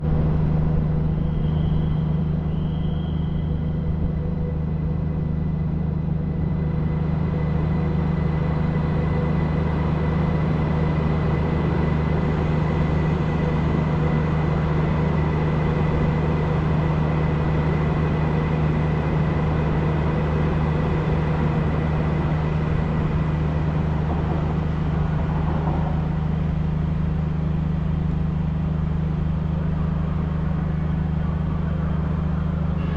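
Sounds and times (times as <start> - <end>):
faint whining tones: 0.0 - 32.9
train low rumble: 0.0 - 32.9.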